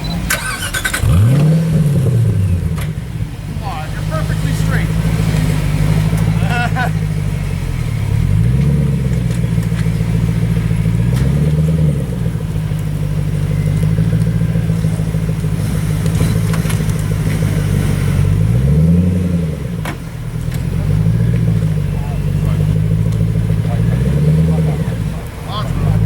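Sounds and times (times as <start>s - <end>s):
car engine throttle blips: 0.0s - 26.0s.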